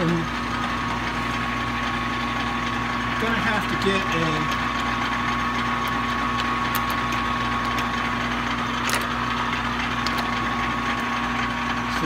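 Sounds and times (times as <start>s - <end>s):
lathe gear hum: 0.0s - 12.0s.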